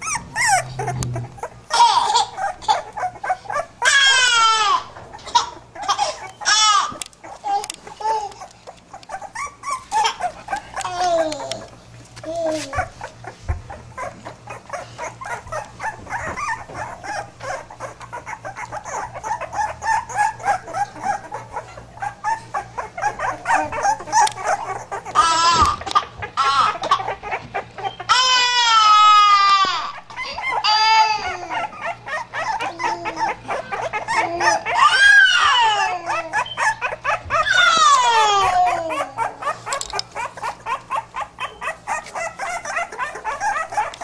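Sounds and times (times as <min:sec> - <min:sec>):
puppies yelping and whining: 0:00.0 - 0:44.0.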